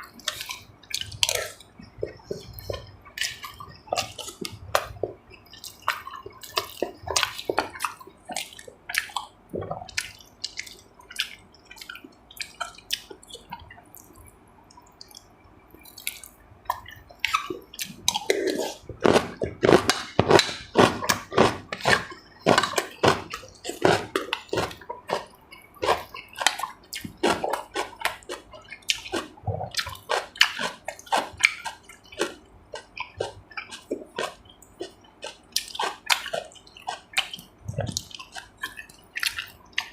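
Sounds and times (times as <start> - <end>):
wet chewing: 0.0 - 39.9
lip smacks and slurps: 0.2 - 39.9.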